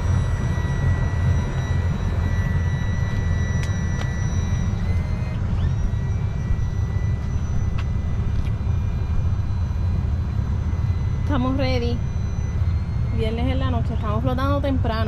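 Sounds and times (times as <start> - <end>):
outboard engine rumbling: 0.0 - 15.0.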